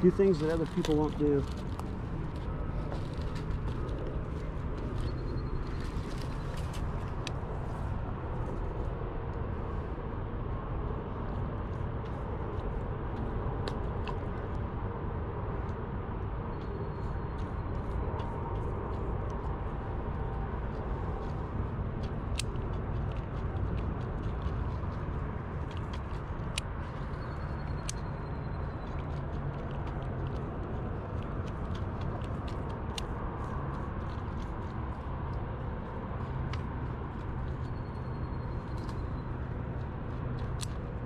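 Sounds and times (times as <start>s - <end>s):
distant road traffic rumble: 0.0s - 41.0s.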